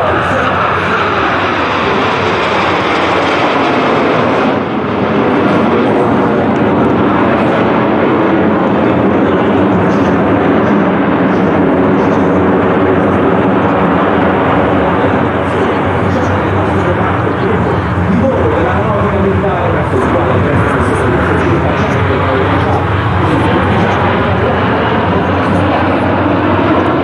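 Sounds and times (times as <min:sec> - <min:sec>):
jet engines rushing overhead: 0:00.0 - 0:27.0.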